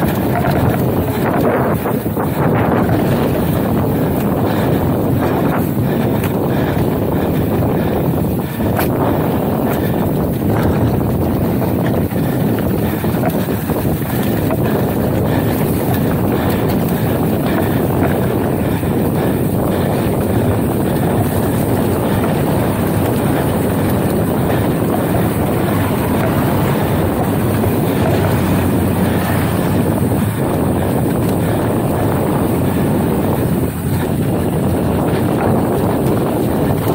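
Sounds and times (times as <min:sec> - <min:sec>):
tyres rolling on dirt trail: 0:00.0 - 0:36.9
wind rushing over microphone: 0:00.0 - 0:36.9.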